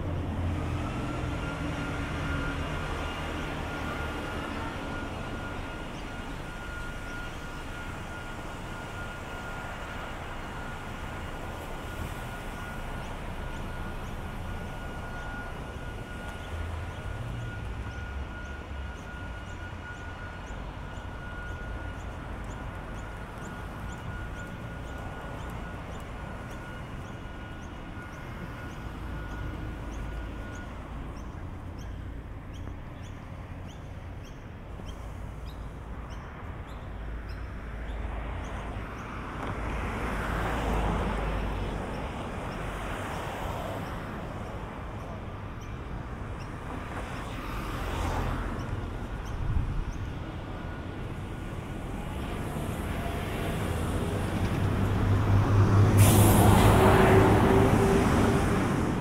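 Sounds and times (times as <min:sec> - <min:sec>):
traffic rumble: 0:00.0 - 0:59.0.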